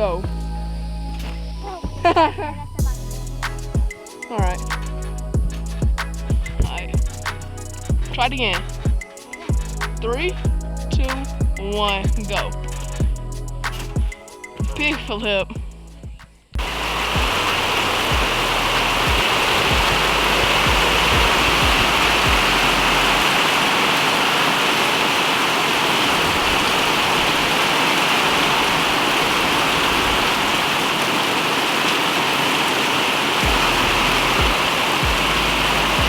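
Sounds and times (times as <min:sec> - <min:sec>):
heavy rain pouring: 0:01.9 - 0:15.8, 0:16.6 - 0:36.0.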